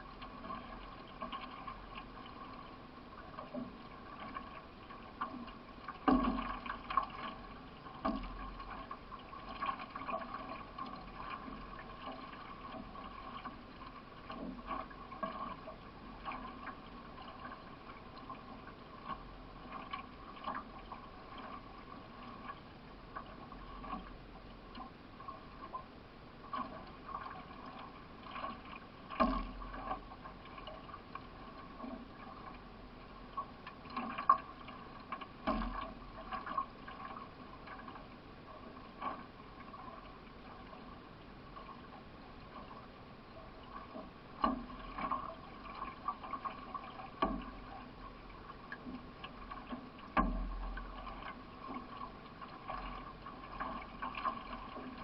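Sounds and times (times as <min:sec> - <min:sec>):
water splashing around canoe: 0:00.0 - 0:55.0.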